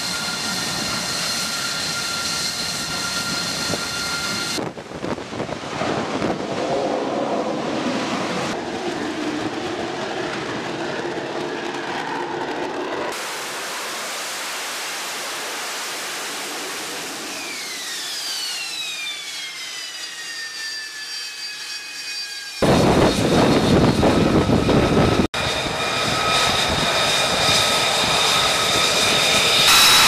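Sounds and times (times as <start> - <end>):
engine whine spooling down: 0.0 - 30.0
jet engine roaring: 0.0 - 30.0.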